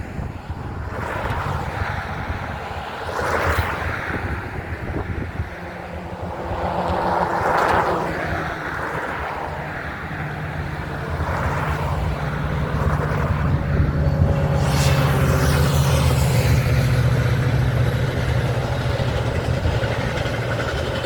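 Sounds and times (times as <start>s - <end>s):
wind noise on microphone: 0.0s - 21.0s
train engine rumble: 4.1s - 21.0s.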